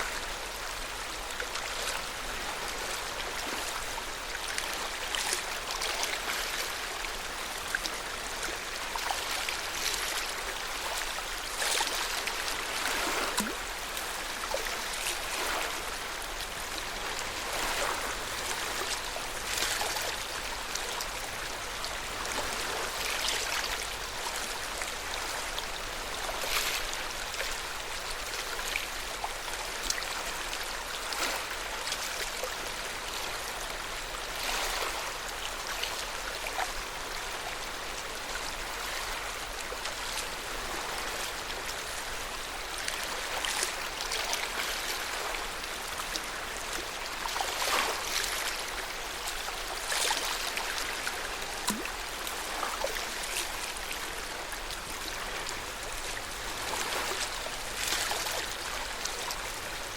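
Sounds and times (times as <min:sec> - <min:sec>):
water lapping at shore: 0:00.0 - 0:59.9
small water splashes: 0:01.4 - 0:33.5, 0:38.3 - 0:59.9.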